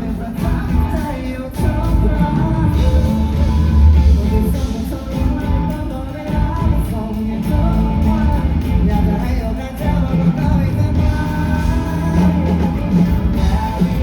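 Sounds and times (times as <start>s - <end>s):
heavy bass: 0.0s - 14.0s
live pop-rock band: 0.0s - 14.0s
person singing: 0.0s - 14.0s.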